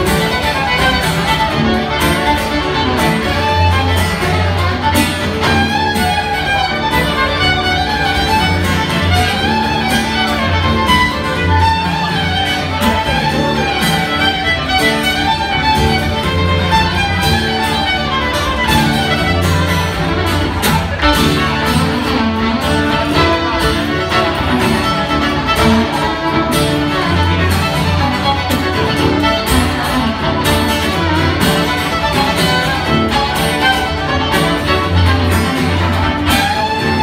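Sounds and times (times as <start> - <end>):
fiddle bowed melody: 0.0 - 37.0.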